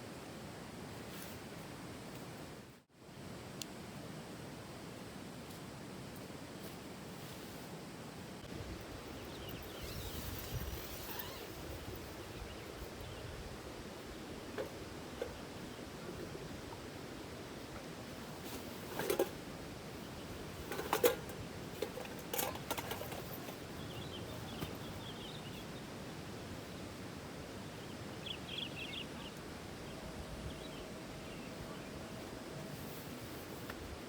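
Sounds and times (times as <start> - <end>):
outdoor background hiss: 0.0 - 34.0.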